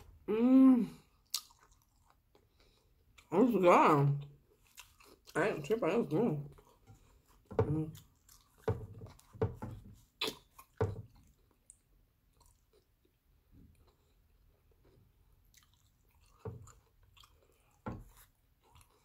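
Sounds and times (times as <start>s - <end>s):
mouth chewing sandwich: 1.0s - 3.3s, 4.5s - 5.4s, 6.5s - 19.0s.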